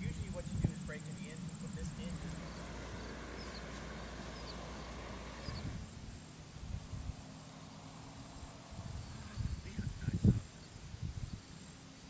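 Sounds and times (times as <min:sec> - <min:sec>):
distant airplane engine rumble: 0:00.0 - 0:11.1
insects chirping: 0:00.0 - 0:12.0.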